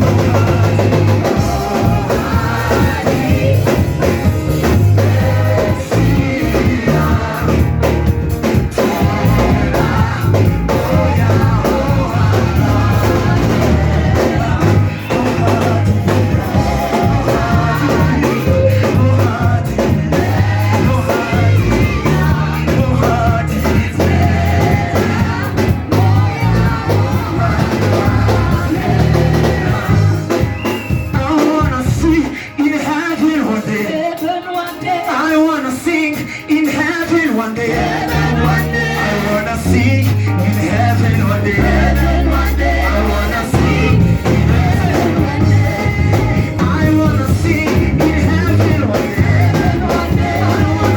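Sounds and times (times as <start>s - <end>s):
band with heavy bass and drums: 0.0s - 50.9s
voices singing: 0.0s - 50.9s.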